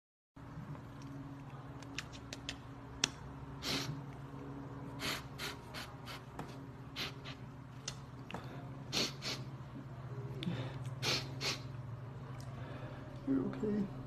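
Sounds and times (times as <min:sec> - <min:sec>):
steady low hum: 0:00.4 - 0:14.0.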